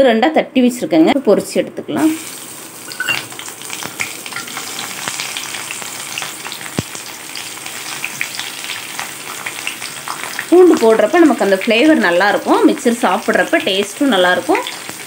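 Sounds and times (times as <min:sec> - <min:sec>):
garlic sizzling in hot oil: 0:02.0 - 0:15.0.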